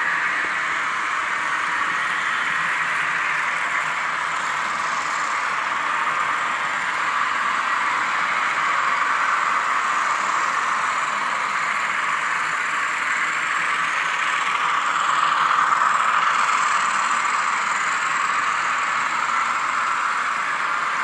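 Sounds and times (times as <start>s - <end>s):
model diesel engine sound: 0.0s - 21.0s
model trains running on track: 0.0s - 21.0s.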